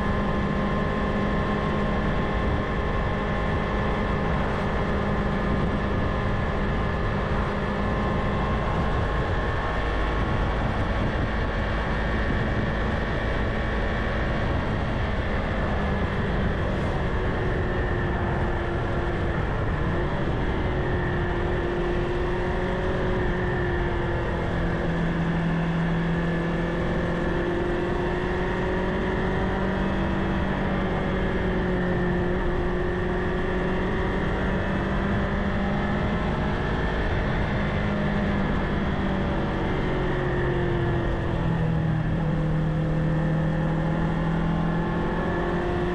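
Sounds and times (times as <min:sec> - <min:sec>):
motorcycle engine cruising: 0:00.0 - 0:45.9
wind and road noise: 0:00.0 - 0:45.9.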